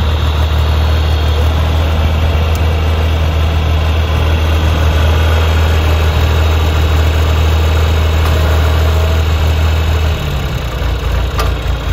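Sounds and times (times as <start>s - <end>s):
tractor engine idling: 0.0s - 11.9s.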